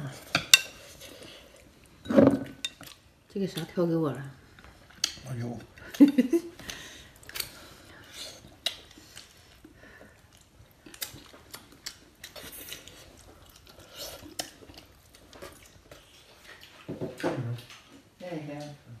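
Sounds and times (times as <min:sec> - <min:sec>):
people chewing and eating: 0:00.0 - 0:19.0.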